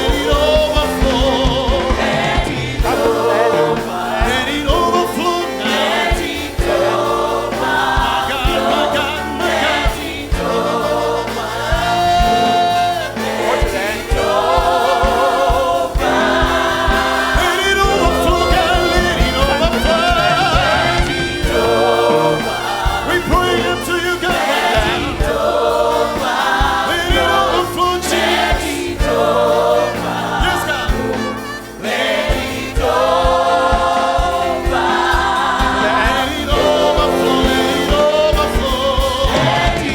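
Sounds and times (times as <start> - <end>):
choir and congregation singing: 0.0 - 39.9
live band with bass and drums: 0.0 - 39.9.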